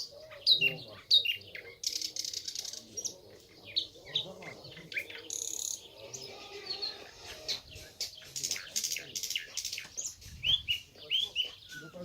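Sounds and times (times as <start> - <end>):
nightingale singing: 0.0 - 12.0.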